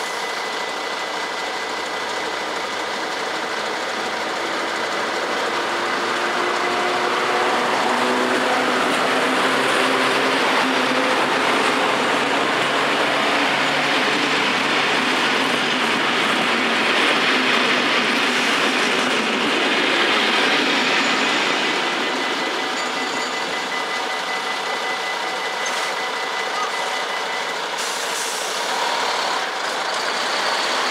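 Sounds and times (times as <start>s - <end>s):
diesel train passing: 0.0s - 30.9s
train wheels rolling on rails: 0.0s - 30.9s.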